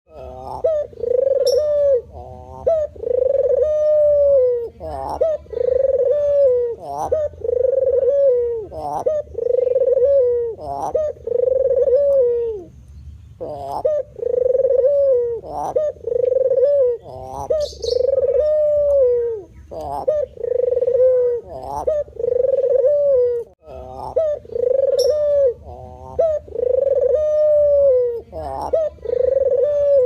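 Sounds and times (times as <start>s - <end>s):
dove cooing: 0.1s - 12.7s, 13.4s - 30.0s.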